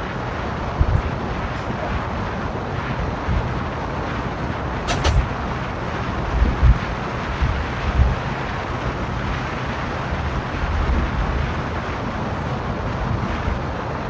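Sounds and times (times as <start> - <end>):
car road and tyre noise: 0.0 - 14.0
low rumble: 0.0 - 14.0.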